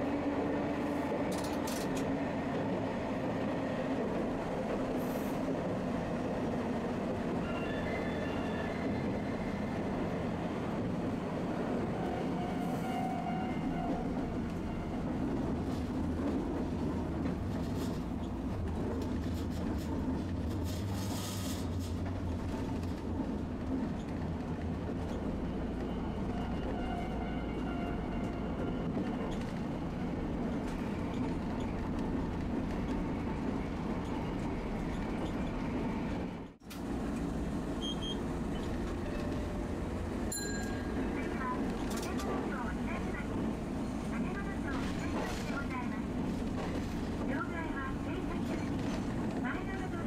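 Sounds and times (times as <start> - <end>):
streetcar rumbling on rails: 0.0 - 50.0.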